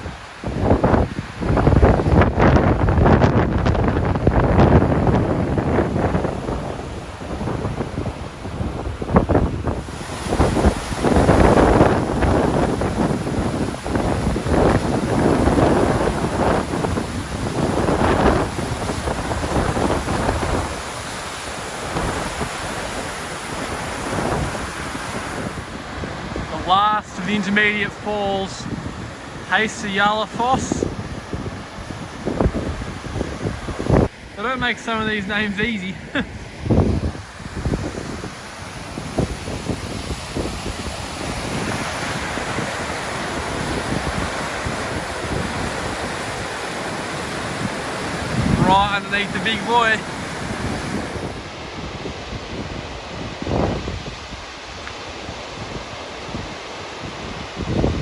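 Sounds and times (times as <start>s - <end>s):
wind buffeting microphone: 0.0s - 58.0s
waterfall rushing: 4.0s - 51.8s.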